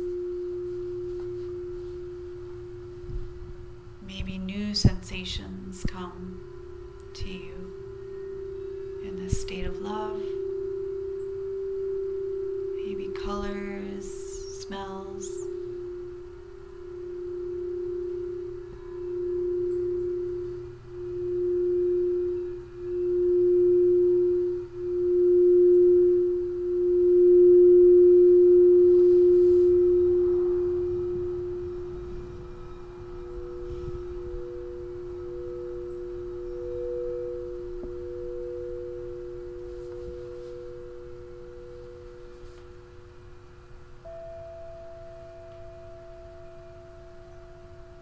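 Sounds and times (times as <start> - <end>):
crystal singing bowl tone: 0.0 - 48.0
higher singing bowl: 0.0 - 48.0.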